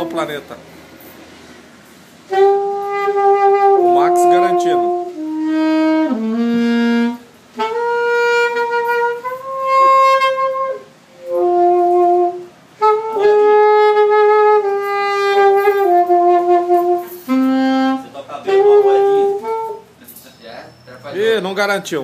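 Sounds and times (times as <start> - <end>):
saxophone playing slow melody: 2.2 - 20.0.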